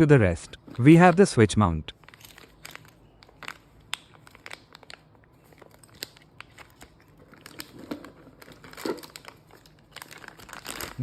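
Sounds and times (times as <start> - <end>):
plastic packaging crinkling: 1.9 - 11.0.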